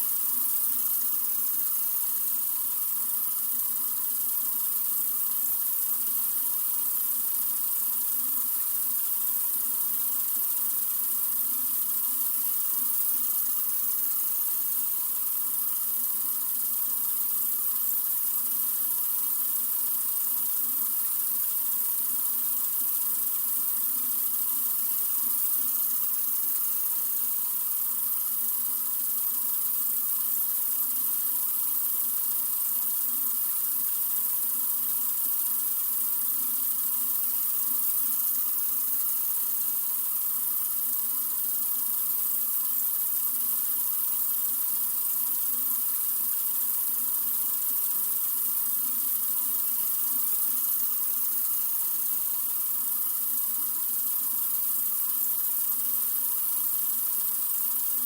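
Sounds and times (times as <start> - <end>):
water running from faucet: 0.0 - 58.0.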